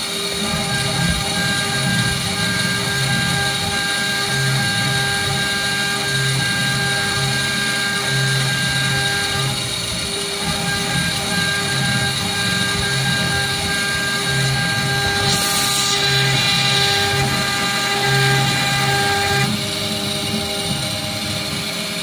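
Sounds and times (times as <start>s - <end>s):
milling spindle whine: 0.0s - 22.0s.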